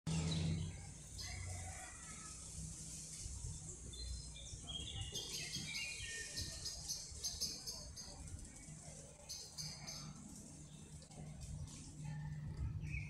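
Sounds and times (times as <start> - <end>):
birds chirping and singing: 0.1 - 2.6, 3.4 - 11.1, 12.1 - 13.0.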